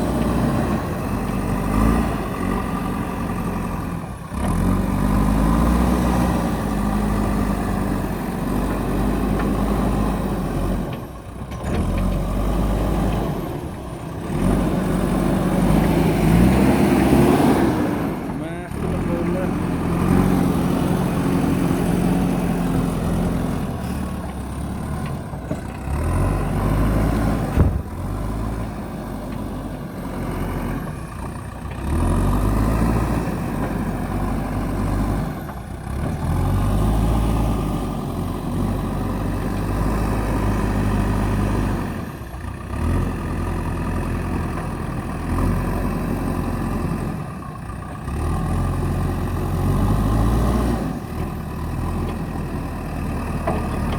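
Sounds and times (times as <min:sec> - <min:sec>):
diesel engine revving: 0:00.0 - 0:53.9.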